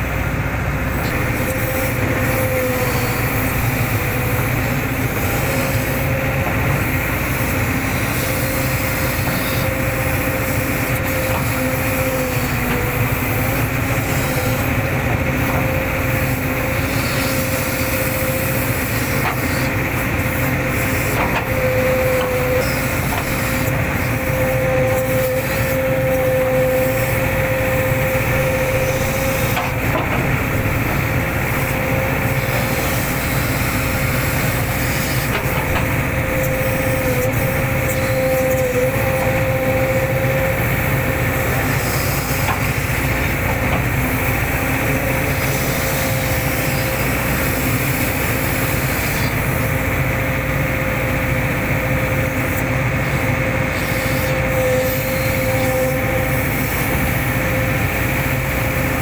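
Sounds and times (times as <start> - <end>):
excavator engine rumbling: 0.0 - 59.0
excavator whine: 0.0 - 59.0.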